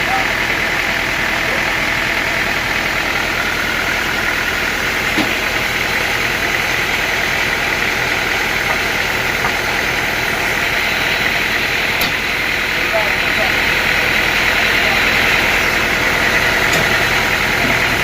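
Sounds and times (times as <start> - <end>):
sawmill machinery drone: 0.0 - 18.0.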